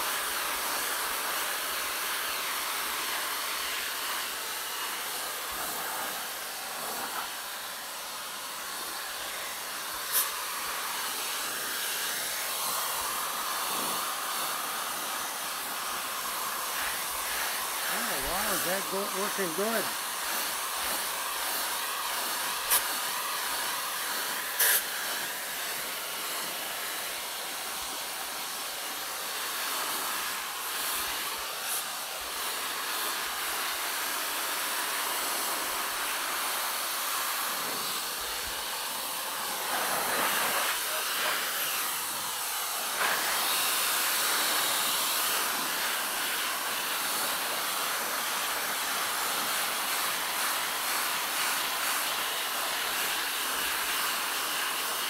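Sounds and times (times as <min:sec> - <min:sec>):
pet dryer blowing air: 0:00.0 - 0:55.0.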